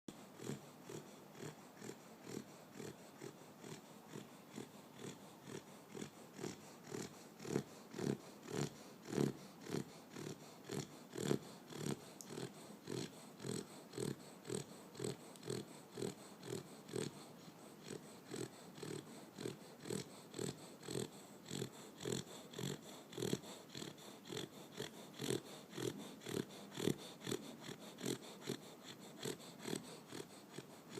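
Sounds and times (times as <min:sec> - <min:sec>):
dog snoring: 0:00.1 - 0:30.9.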